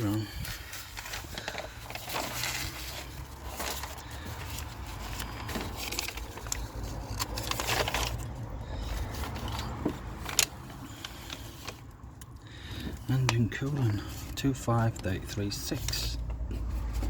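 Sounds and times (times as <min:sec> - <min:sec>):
clicks and rustles of handling: 0:00.0 - 0:17.0.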